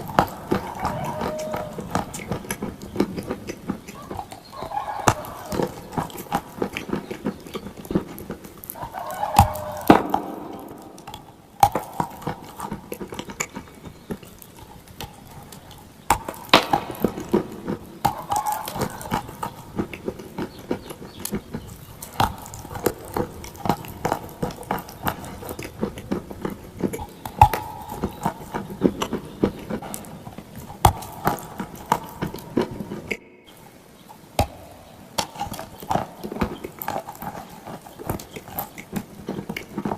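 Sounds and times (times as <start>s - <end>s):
clay crunching while chewed: 0.0s - 33.6s, 34.4s - 39.9s.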